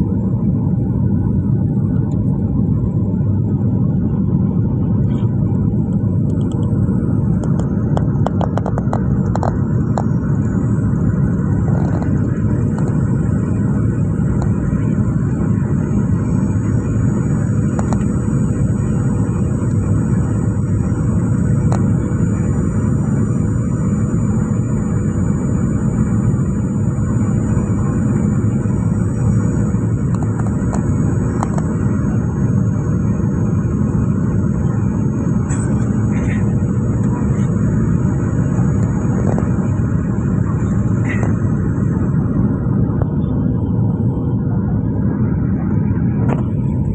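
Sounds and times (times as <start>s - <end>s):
airflow rushing in cabin: 0.0s - 46.9s
jet engines running: 0.0s - 46.9s.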